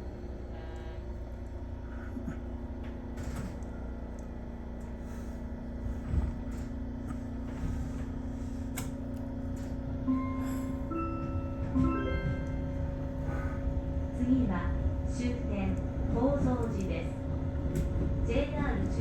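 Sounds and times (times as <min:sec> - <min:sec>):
train running rumble and hum: 0:00.0 - 0:19.0.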